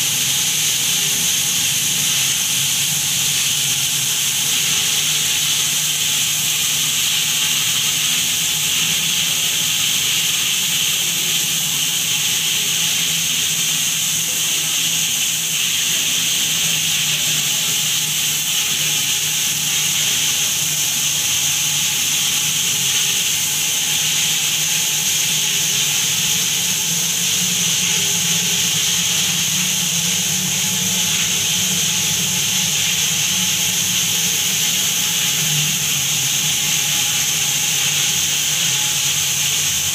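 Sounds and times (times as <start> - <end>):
water jet spraying against glass: 0.0 - 39.9.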